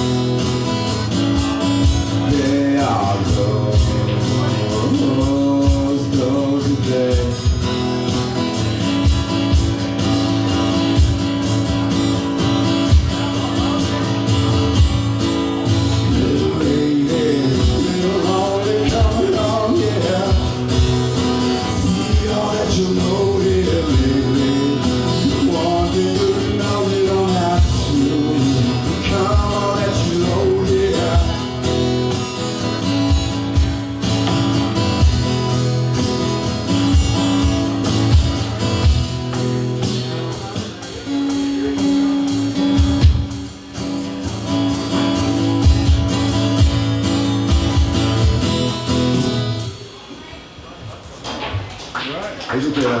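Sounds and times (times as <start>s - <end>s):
live band music: 0.0s - 50.6s.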